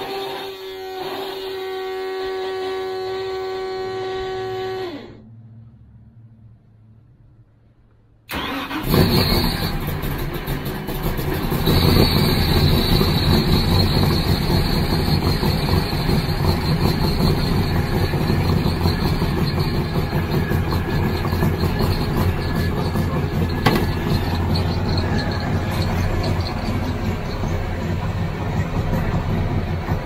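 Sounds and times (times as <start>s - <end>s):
boat engines starting and idling: 0.0s - 30.0s.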